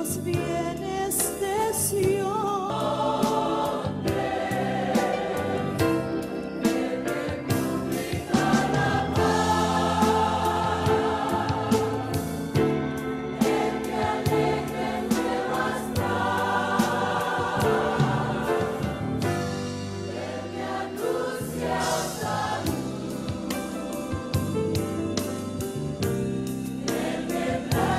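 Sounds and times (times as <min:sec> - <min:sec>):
choir singing a hymn: 0:00.0 - 0:27.9
instrumental accompaniment with beat: 0:03.2 - 0:27.9.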